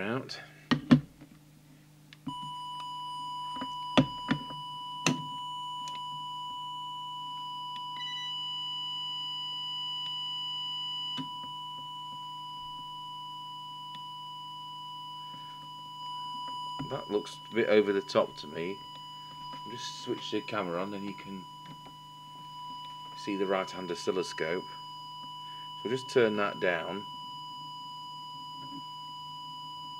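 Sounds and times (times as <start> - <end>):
steady test tone: 2.3 - 28.9.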